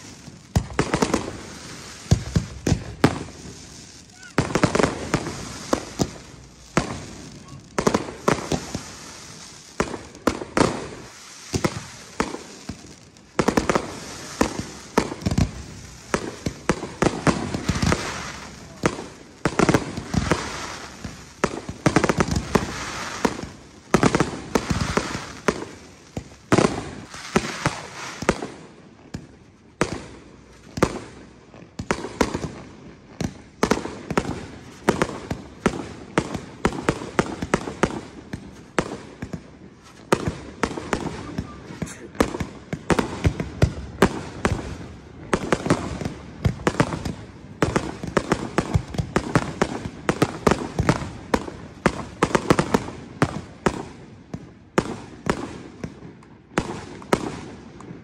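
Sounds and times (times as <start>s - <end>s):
fireworks bursting with echo: 0.0s - 58.0s.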